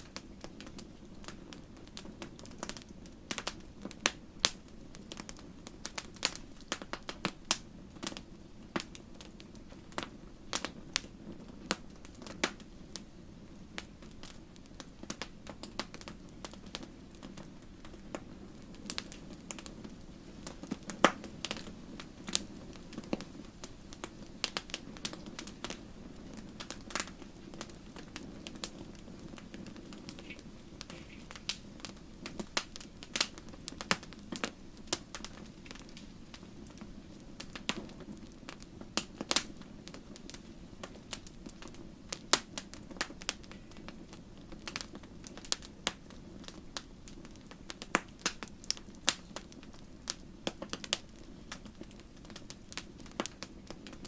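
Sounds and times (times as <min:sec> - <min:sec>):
wood campfire crackling: 0:00.0 - 0:54.0.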